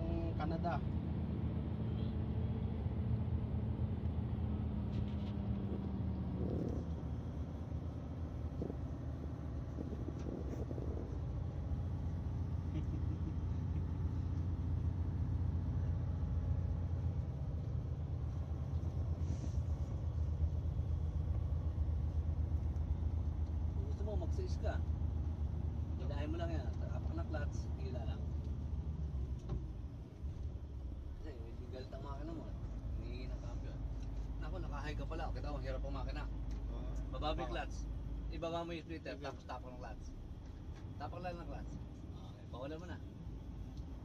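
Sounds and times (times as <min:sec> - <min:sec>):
truck engine and road rumble: 0:00.0 - 0:44.0.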